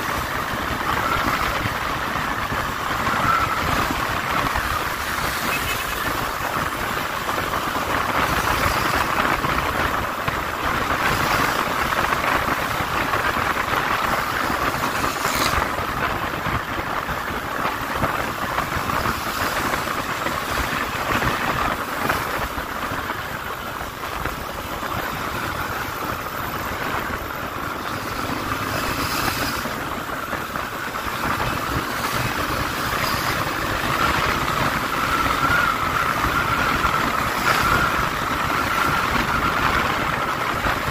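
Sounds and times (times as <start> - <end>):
motorcycle engine running: 0.0 - 40.8
wind noise on microphone: 0.0 - 40.9.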